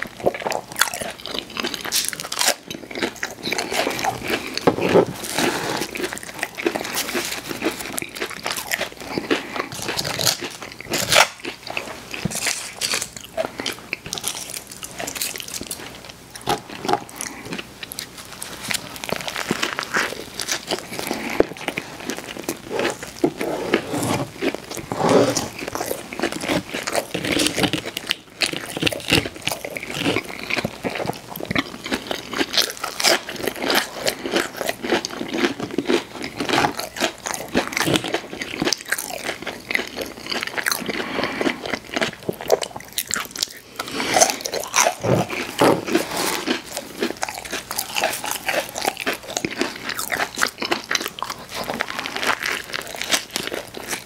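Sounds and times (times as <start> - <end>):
crunchy food being chewed: 0.0 - 54.0.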